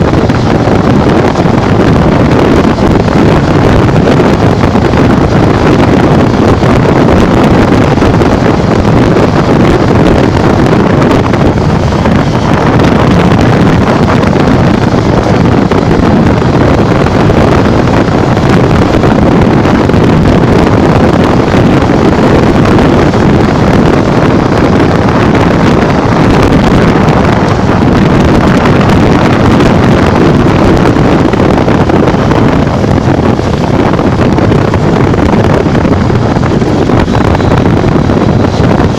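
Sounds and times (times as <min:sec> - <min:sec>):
motorcycle riding at speed: 0:00.0 - 0:38.9
wind buffeting microphone: 0:00.0 - 0:38.9.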